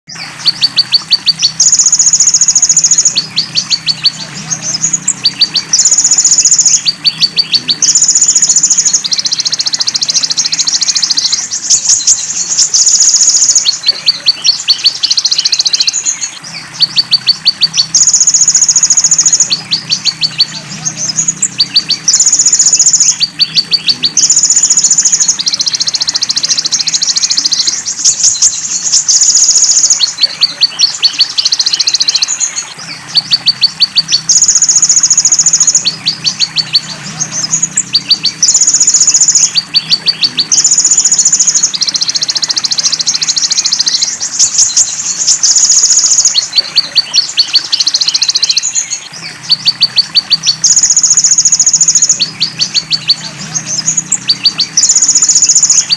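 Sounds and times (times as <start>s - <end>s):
bird rapid ticking: 0.1s - 55.9s
bird song with buzzy trills: 0.1s - 55.9s.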